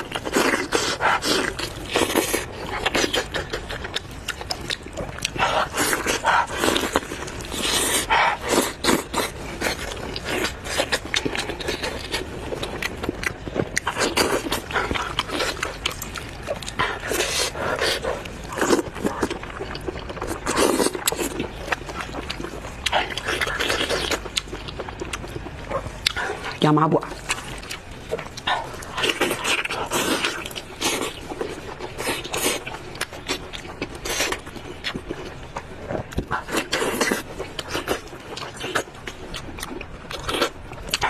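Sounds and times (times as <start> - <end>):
chewing and wet smacking: 0.0 - 41.0.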